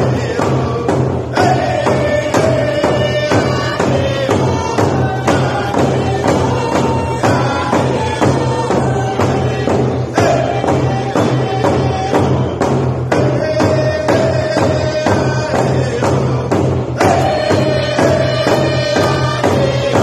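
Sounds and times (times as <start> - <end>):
hand drum struck with beater: 0.0 - 20.0
man singing: 0.0 - 20.0.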